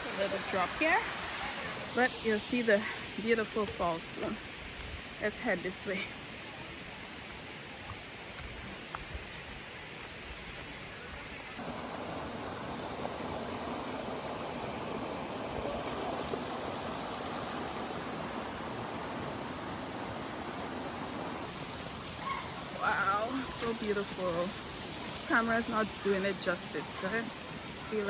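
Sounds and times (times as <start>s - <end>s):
waterfall and river rushing: 0.0s - 28.0s.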